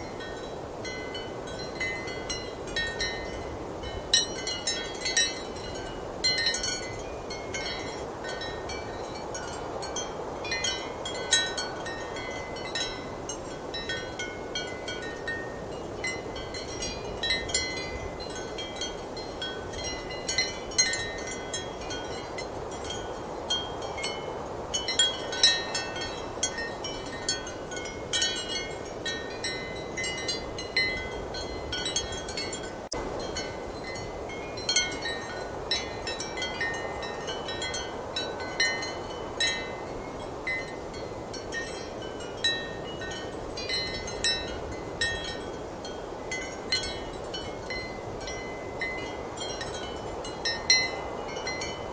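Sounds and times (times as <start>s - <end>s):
ceramic wind chimes clinking: 0.0s - 51.9s.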